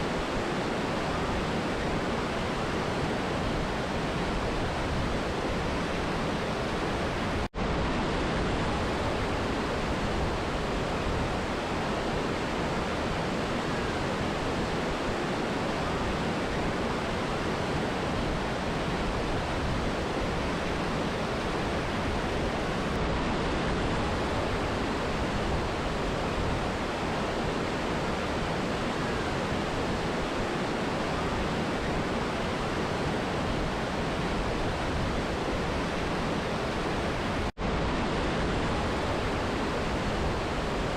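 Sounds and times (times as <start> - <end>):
waterfall and river rushing: 0.0 - 40.9.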